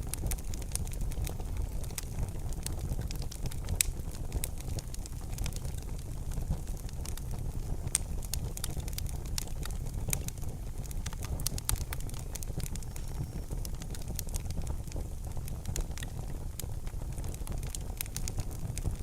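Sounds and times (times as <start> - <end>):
fire crackling and popping: 0.0 - 19.0
low rumble of flame: 0.0 - 19.0.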